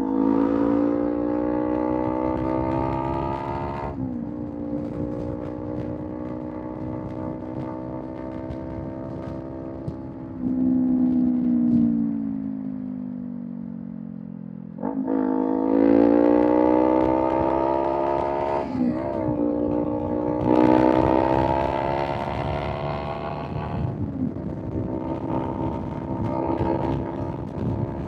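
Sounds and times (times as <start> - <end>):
motorcycle engine revving: 0.0 - 11.8, 14.8 - 28.0.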